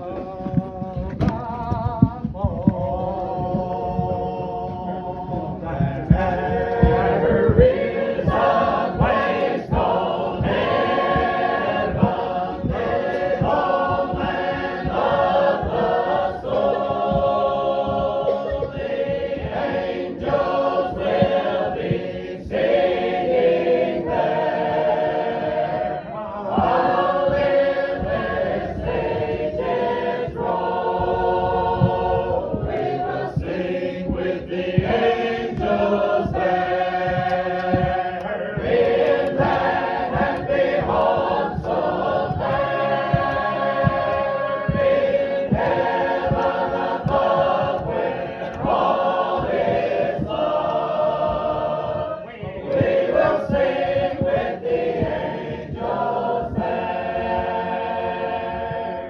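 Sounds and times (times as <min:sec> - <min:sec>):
congregation singing a hymn: 0:00.0 - 0:59.0.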